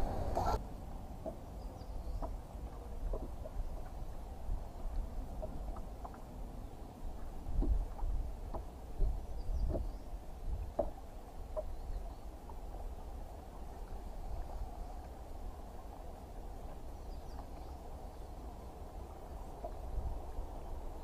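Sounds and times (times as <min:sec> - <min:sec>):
water lapping against boat hull: 0:00.0 - 0:21.0
wind rumbling on microphone: 0:00.0 - 0:21.0.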